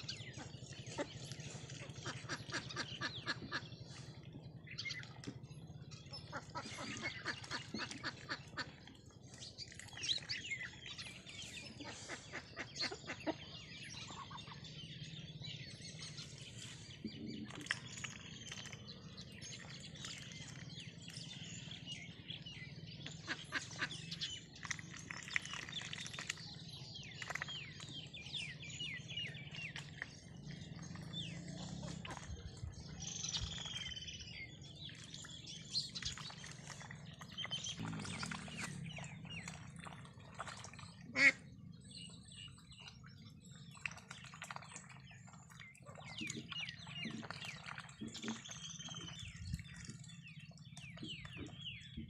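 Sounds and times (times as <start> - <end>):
birds chirping: 0.0 - 52.0
ducks dabbling in water: 0.0 - 52.0.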